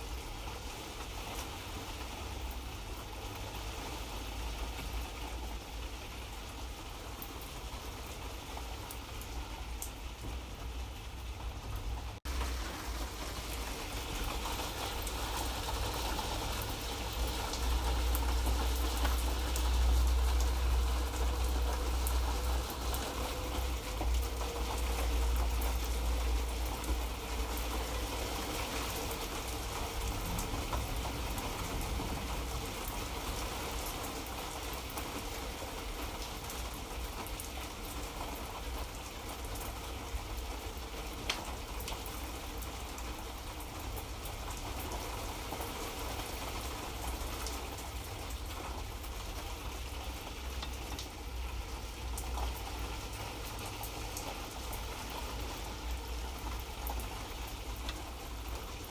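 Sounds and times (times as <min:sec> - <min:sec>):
light rain patter: 0:00.0 - 0:58.9.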